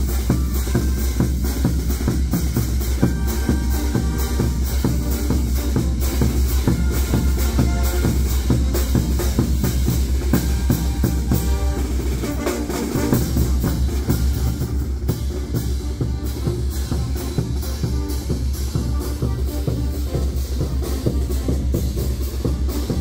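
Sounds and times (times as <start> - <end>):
drums keeping steady beat: 0.0 - 23.0
heavy constant bass: 0.0 - 23.0.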